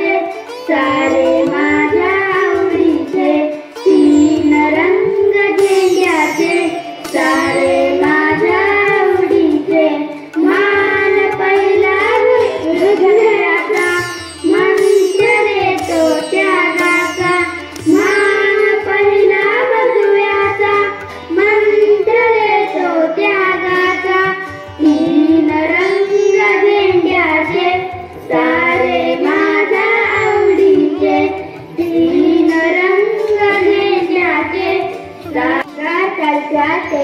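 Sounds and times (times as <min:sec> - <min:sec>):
children singing: 0:00.0 - 0:37.0
instrumental accompaniment: 0:00.0 - 0:37.0.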